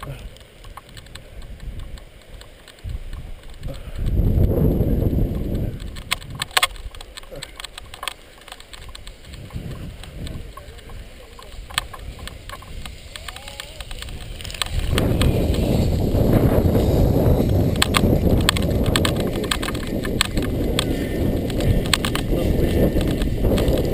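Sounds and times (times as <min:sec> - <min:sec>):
sharp clicks and knocks: 0:00.0 - 0:04.2, 0:05.3 - 0:23.9
wind buffeting microphone: 0:00.7 - 0:23.9.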